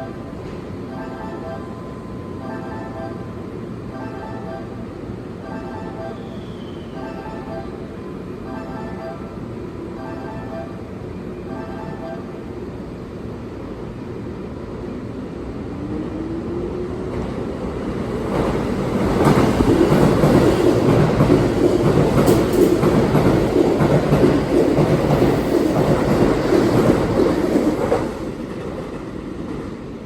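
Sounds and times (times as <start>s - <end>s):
train passing: 0.0s - 30.0s.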